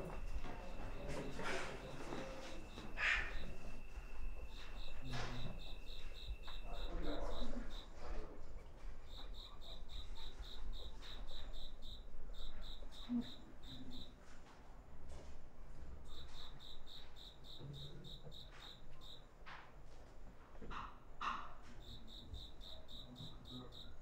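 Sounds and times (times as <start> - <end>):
cricket chirping: 0.0 - 14.2, 15.9 - 19.3, 20.7 - 24.0.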